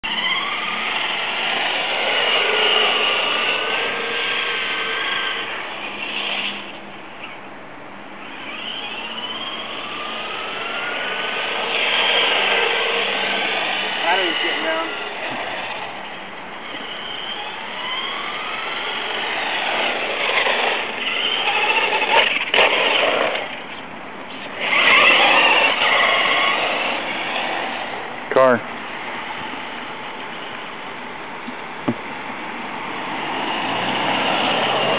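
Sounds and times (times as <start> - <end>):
toy truck electric motor whining: 0.0 - 6.8, 8.2 - 28.6, 33.1 - 34.9.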